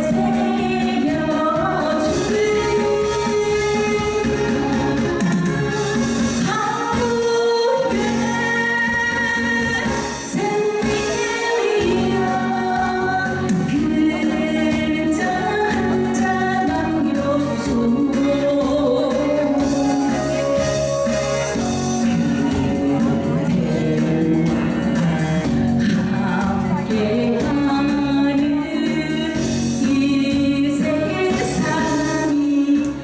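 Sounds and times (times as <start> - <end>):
instrumental accompaniment: 0.0 - 33.0
woman singing: 0.0 - 33.0.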